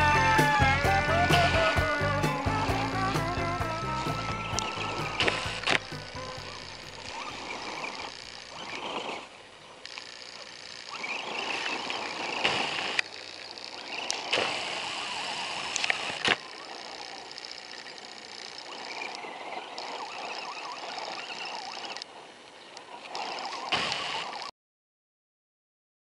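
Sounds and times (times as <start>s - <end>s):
small electric motor whining: 0.0s - 24.5s.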